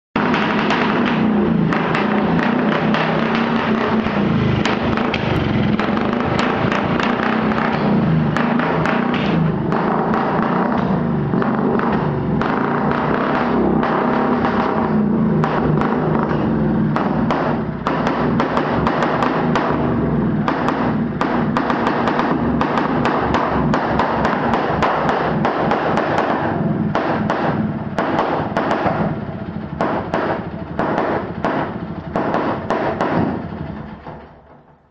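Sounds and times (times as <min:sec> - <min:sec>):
motorcycle engine popping: 0:00.1 - 0:34.9.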